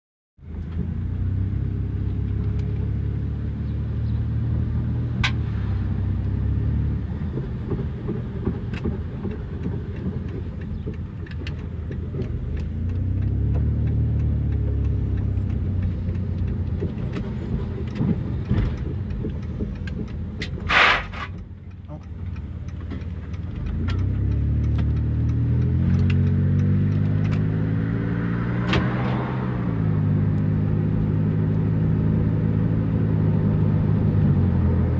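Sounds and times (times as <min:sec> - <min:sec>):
van engine revving: 0:00.4 - 0:34.9.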